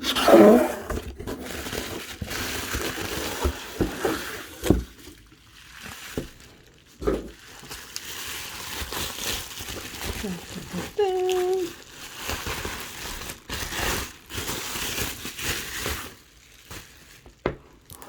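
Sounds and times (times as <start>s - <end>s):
plastic wrap crinkling: 0.0s - 18.0s.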